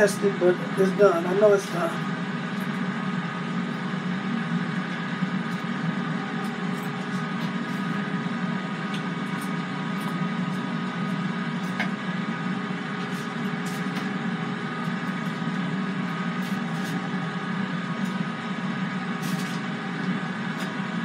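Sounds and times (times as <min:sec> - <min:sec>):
appliance fan humming: 0:00.0 - 0:21.0.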